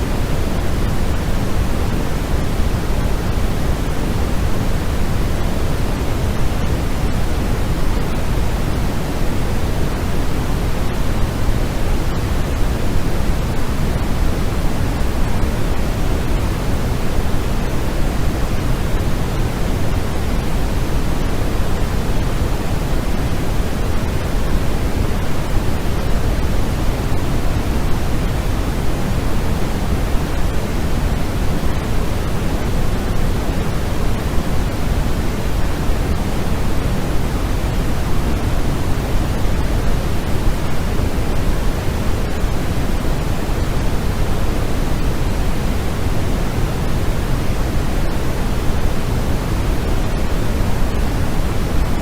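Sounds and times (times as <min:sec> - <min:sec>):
steady rushing hiss: 0:00.0 - 0:52.0.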